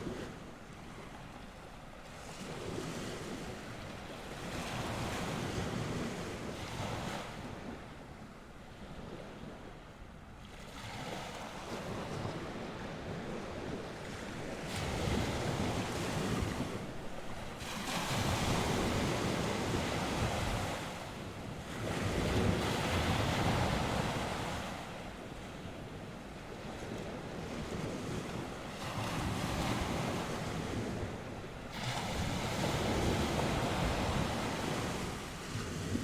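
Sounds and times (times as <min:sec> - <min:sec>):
waves breaking on shore: 0:00.0 - 0:36.0
wind: 0:00.0 - 0:36.0.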